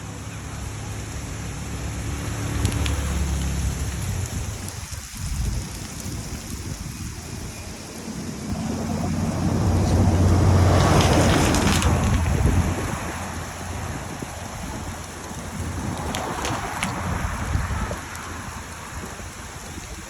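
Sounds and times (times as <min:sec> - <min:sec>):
rain hissing: 0:00.0 - 0:20.0
wind buffeting microphone: 0:02.2 - 0:20.0.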